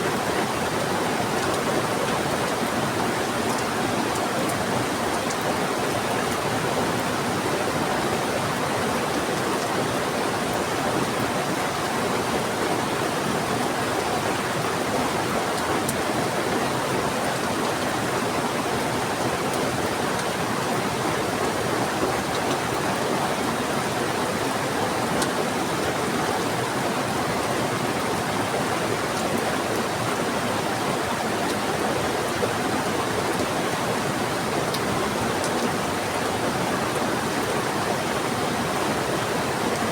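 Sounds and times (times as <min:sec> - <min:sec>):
fast-flowing river: 0:00.0 - 0:39.9
heavy rain falling: 0:00.1 - 0:39.9.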